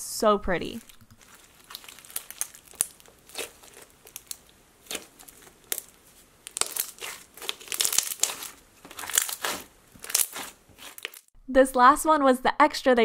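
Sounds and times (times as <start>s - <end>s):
crunchy slime crackling: 0.6s - 11.3s.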